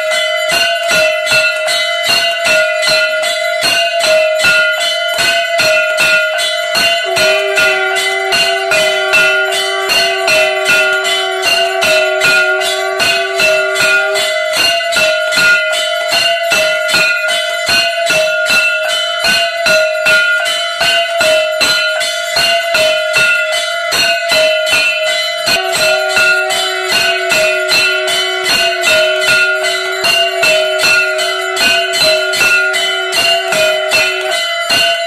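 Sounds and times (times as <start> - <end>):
brass gongs beaten rapidly: 0.0 - 35.0
low ringing bell: 0.0 - 35.0.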